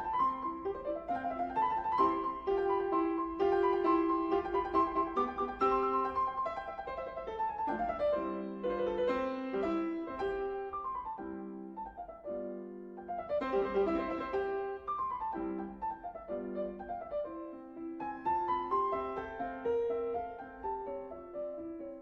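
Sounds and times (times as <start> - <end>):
classical piano music: 0.0 - 22.0.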